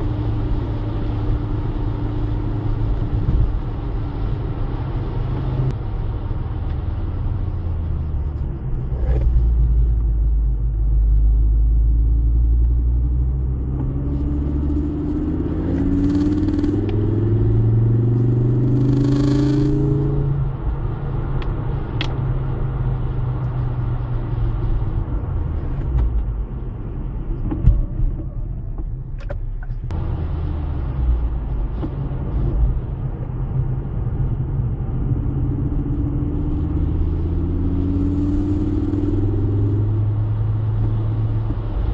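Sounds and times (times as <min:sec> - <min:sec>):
car engine accelerating: 0:00.0 - 0:29.1, 0:29.8 - 0:41.9.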